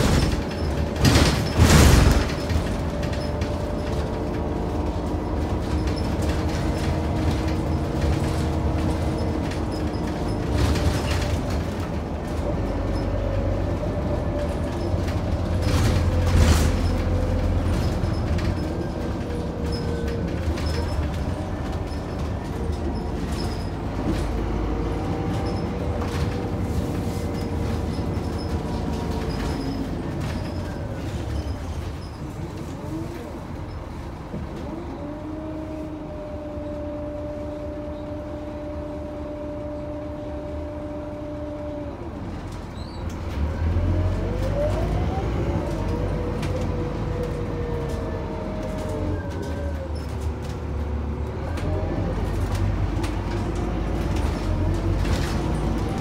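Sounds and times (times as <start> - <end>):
bus diesel engine running: 0.0 - 56.0.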